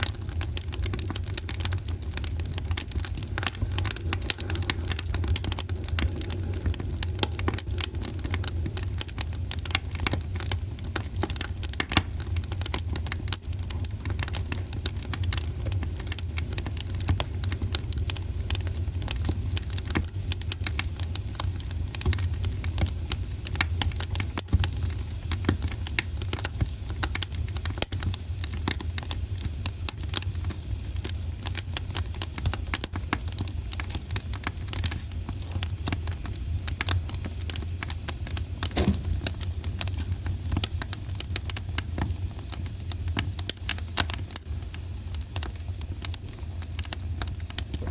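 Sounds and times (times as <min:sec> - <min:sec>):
low rumble of flames: 0:00.0 - 0:47.9
wood fire crackling and popping: 0:00.0 - 0:47.9.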